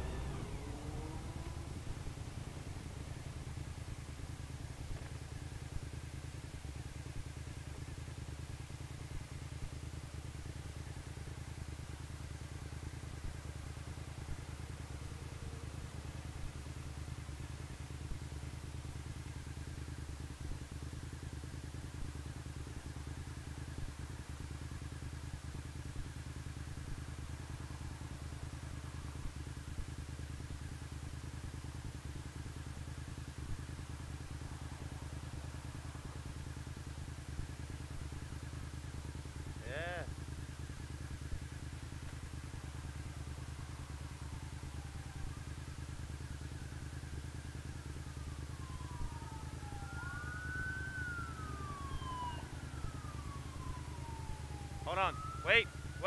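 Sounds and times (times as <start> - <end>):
motorcycle engine idling: 0.0 - 56.0
second motorcycle idling: 0.0 - 56.0.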